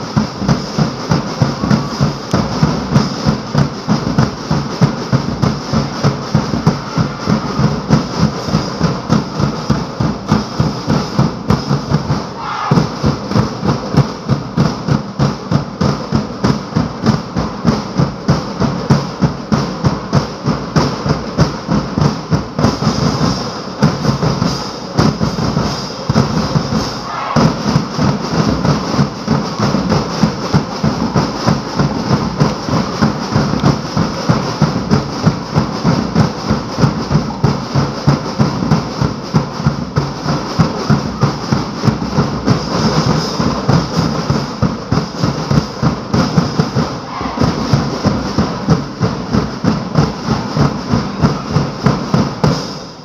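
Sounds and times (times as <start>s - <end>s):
drum ensemble with cymbals: 0.0s - 53.0s.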